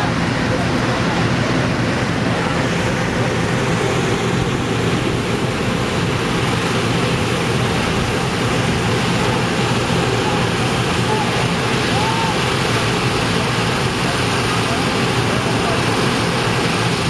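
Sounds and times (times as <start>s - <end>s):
inflator fan engine hum: 0.0s - 17.0s
loud rush of air: 0.0s - 17.0s.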